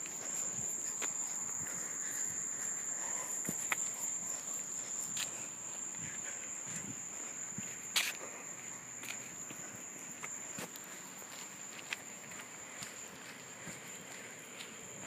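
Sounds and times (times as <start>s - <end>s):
faint clicks and scuffs: 0.0s - 15.0s
insects trilling: 0.0s - 15.0s.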